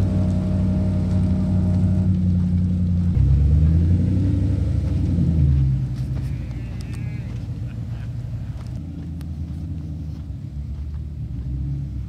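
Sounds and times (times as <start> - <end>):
engine running low rumble: 0.0 - 12.0.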